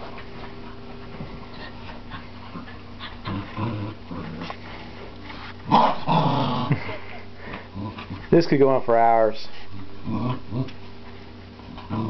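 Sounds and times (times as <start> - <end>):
dogs play-growling: 0.0 - 8.4, 9.6 - 12.0
steady background hum: 0.0 - 12.0.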